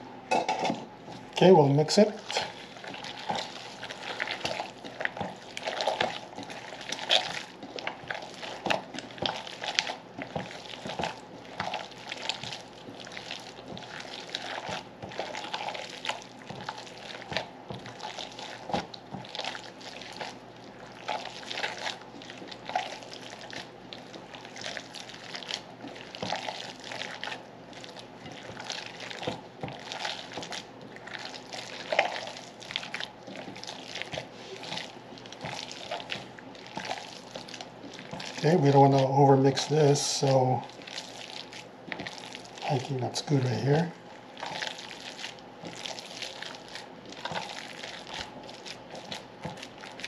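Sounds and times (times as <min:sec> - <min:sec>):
wet squelches of kneading meat: 0:01.0 - 0:50.0.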